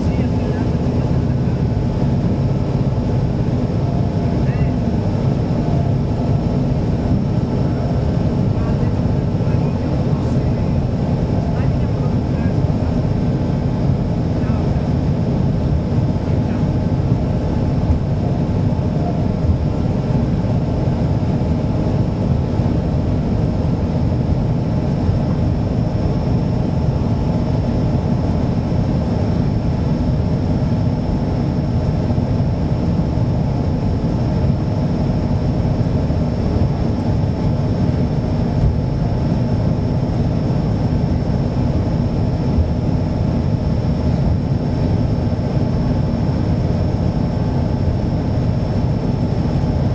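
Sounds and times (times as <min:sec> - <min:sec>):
heavy engine noise: 0:00.0 - 0:49.9
steady high whine: 0:00.0 - 0:49.9.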